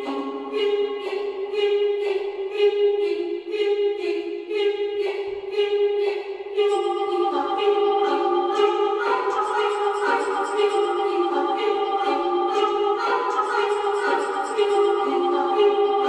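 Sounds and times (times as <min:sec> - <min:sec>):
background music with choir tones: 0:00.0 - 0:16.0.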